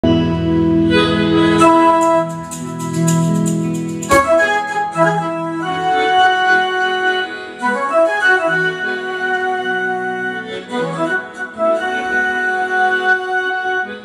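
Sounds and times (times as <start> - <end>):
organ-like keyboard chords: 0.0 - 14.0
harmonica melody: 0.7 - 14.0.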